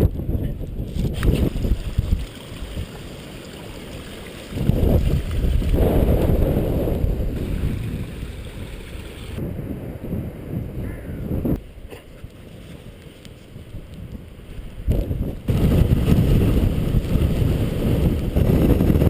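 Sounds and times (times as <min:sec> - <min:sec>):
gusty wind buffeting microphone: 0:00.0 - 0:02.9, 0:04.4 - 0:19.0.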